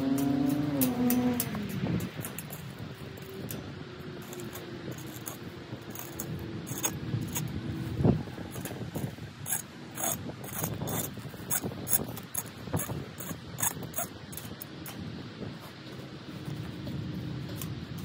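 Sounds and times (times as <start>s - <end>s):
hand trowel scraping soil: 0.0s - 18.0s.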